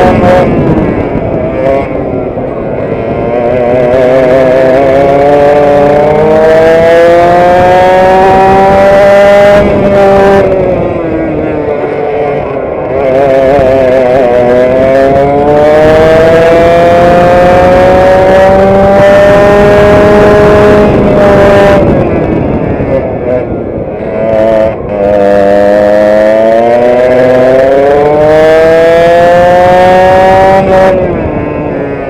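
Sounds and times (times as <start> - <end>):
kart engine revving: 0.0 - 32.0.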